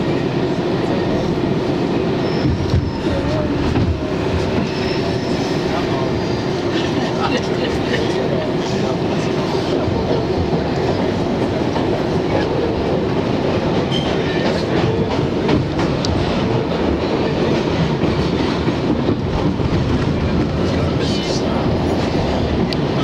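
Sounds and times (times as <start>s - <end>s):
subway wheels on rails: 0.0s - 23.0s.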